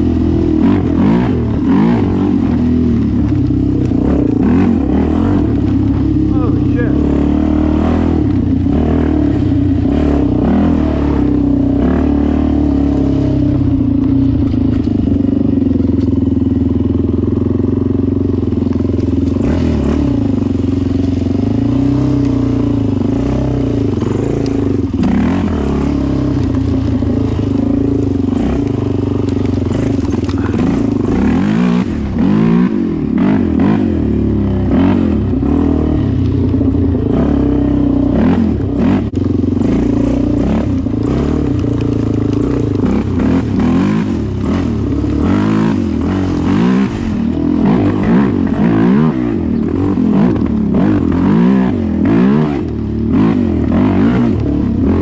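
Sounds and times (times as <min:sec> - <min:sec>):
quad bike engine revving: 0:00.0 - 0:55.0.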